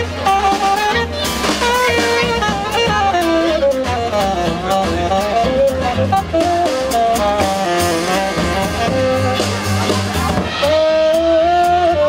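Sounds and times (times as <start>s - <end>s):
accordion: 0.0s - 12.0s
double bass: 0.0s - 12.0s
drum kit: 0.0s - 12.0s.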